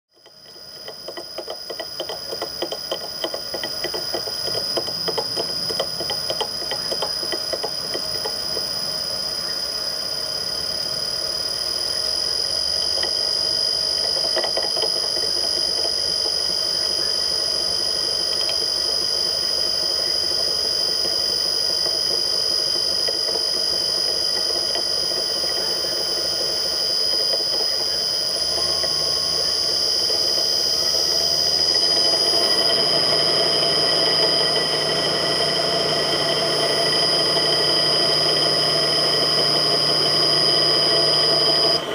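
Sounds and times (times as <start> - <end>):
motor whining with rattling bearings: 0.1 - 41.9.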